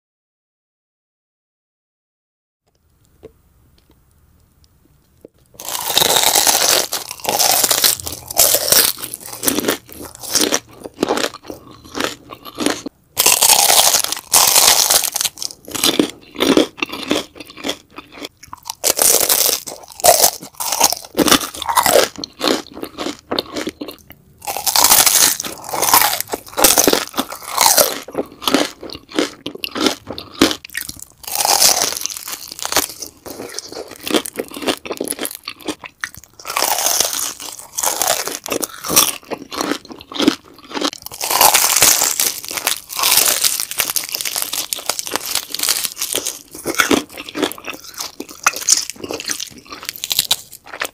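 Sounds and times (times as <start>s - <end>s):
crunchy chewing close up: 5.2s - 50.9s.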